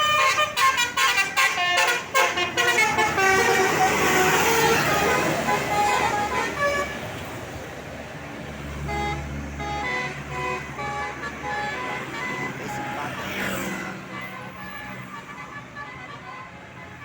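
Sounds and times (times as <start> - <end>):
bus horn playing tune: 0.0 - 7.3, 8.8 - 17.0
bus engine rumble: 0.0 - 17.0.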